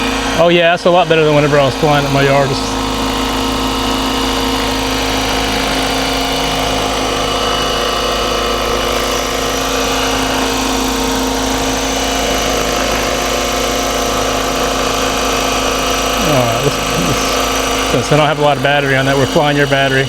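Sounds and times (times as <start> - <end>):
rc helicopter rotor whine: 0.0 - 20.0.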